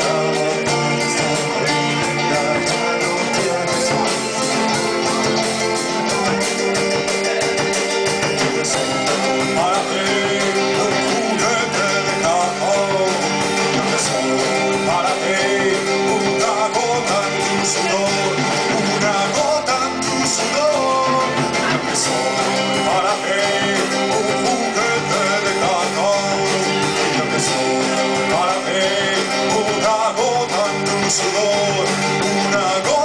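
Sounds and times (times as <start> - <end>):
drum kit with cymbals: 0.0 - 33.0
electric guitar: 0.0 - 33.0
keyboard: 0.0 - 33.0
man singing: 0.0 - 33.0.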